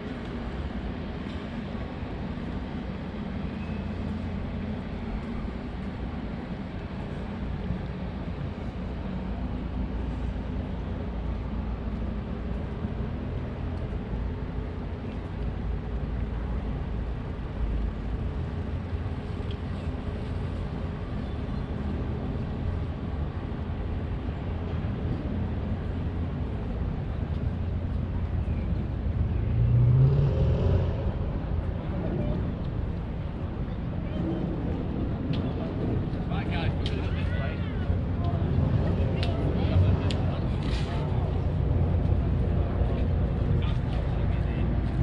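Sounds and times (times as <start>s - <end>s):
city traffic rumble: 0.0s - 45.0s.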